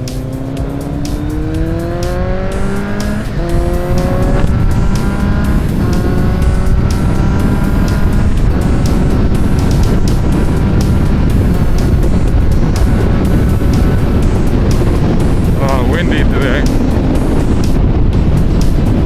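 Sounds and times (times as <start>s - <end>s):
motorcycle engine accelerating: 0.0s - 19.0s
wind rushing over microphone: 0.0s - 19.0s.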